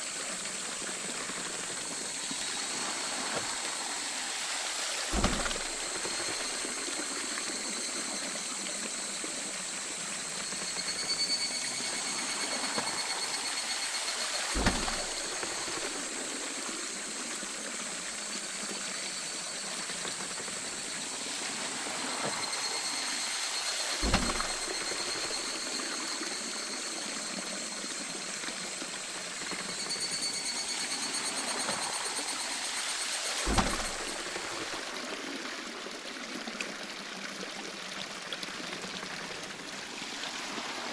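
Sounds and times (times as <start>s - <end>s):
faint high whine: 0.0s - 35.8s
water flowing and splashing: 0.0s - 40.9s.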